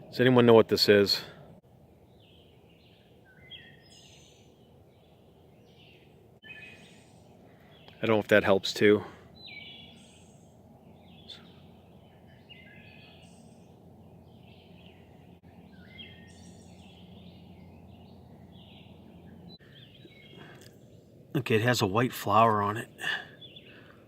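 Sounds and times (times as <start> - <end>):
low outdoor background hum: 0.0 - 24.0
songbirds chirping: 0.0 - 24.0.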